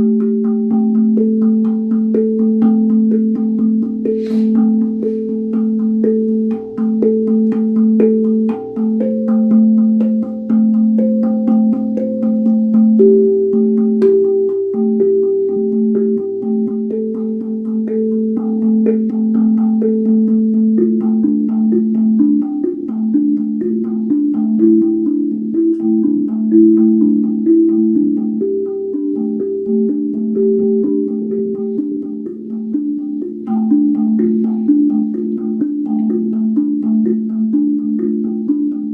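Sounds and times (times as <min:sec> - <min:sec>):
steel tongue drum notes: 0:00.0 - 0:38.9.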